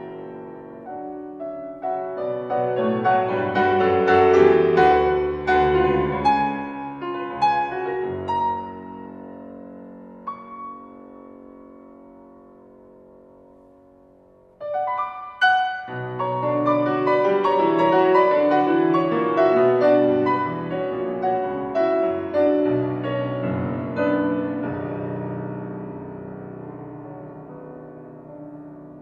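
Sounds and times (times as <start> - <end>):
solo piano playing: 0.0 - 29.0.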